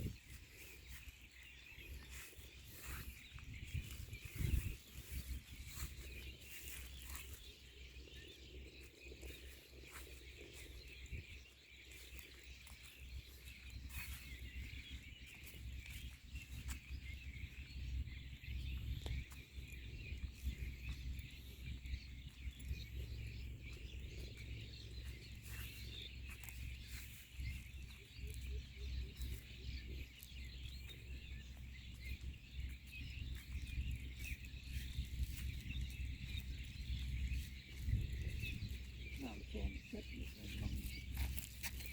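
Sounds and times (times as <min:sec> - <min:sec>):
small birds chirping: 0:00.0 - 0:41.9
steady low rumble: 0:00.0 - 0:41.9.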